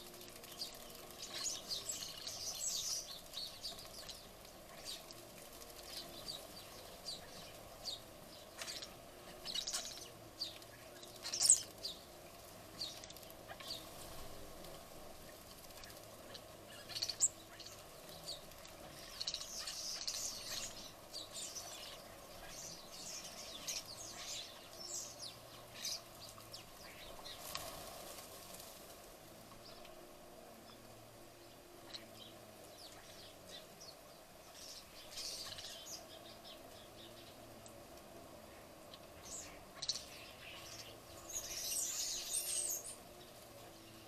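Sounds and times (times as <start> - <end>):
faint background hum: 0.0 - 44.0
small birds chirping: 0.0 - 44.0.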